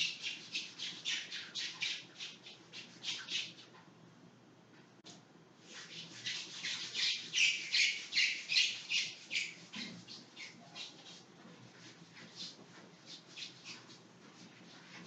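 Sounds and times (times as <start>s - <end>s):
eraser squeaking on whiteboard: 0.0s - 3.7s, 5.7s - 15.0s.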